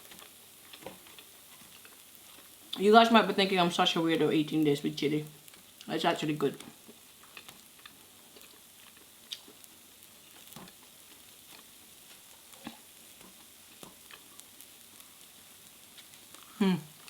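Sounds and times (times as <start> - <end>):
batter sizzling in a pan: 0.0 - 17.0.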